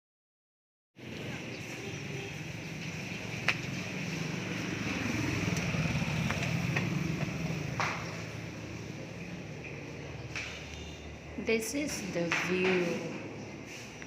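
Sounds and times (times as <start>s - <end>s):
vehicle engine humming: 1.0s - 14.0s.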